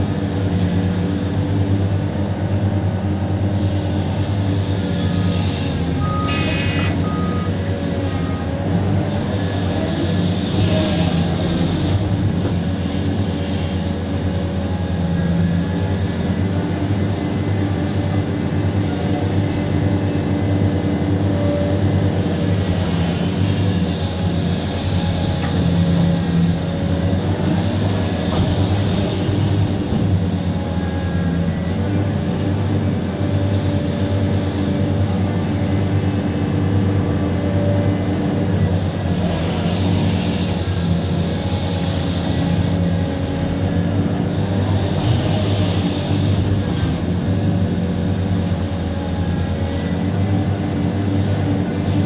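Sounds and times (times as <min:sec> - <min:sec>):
excavator diesel engine droning: 0:00.0 - 0:52.0.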